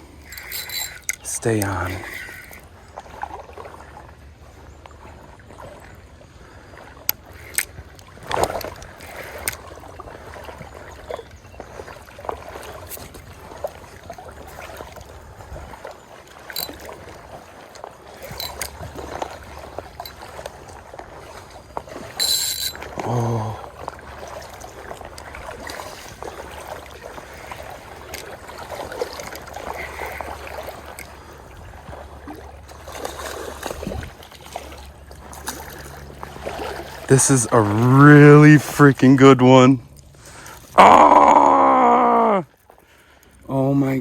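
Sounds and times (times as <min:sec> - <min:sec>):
water splashing: 0:00.0 - 0:44.0.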